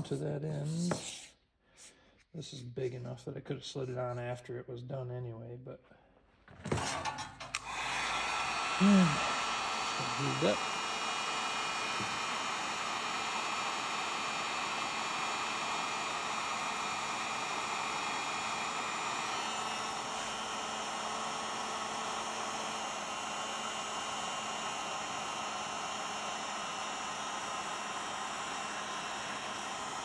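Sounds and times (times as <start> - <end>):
heat gun blowing hot air: 0.0 - 1.3, 6.7 - 30.0.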